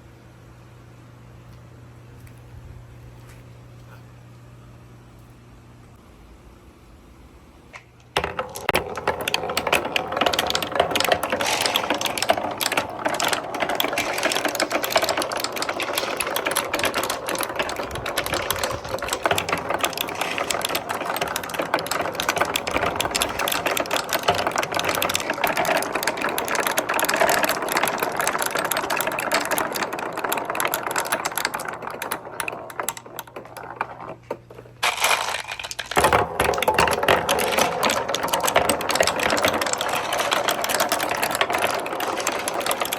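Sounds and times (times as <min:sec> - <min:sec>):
balls clattering down marble run: 0:08.1 - 0:42.9.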